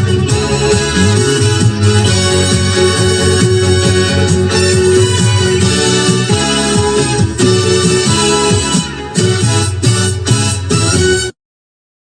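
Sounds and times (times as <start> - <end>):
background music with steady beat: 0.0 - 11.4.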